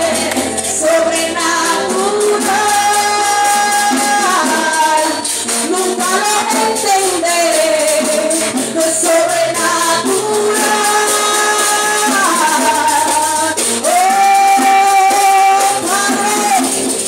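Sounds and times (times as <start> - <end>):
shaker rhythm: 0.0 - 17.0
woman singing into a microphone: 0.0 - 17.0.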